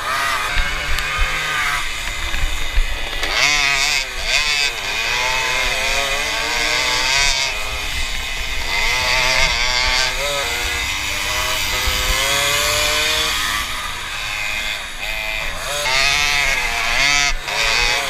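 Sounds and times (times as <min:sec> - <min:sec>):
moped engine revving: 0:00.0 - 0:18.0.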